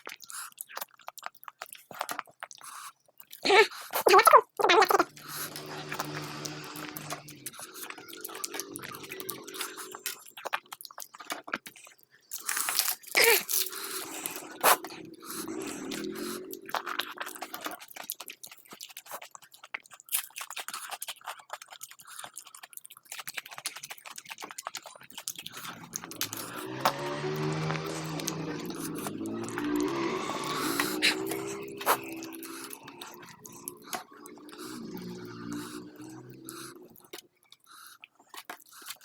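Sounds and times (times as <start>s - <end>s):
person chewing crunchy food: 0.0s - 39.0s.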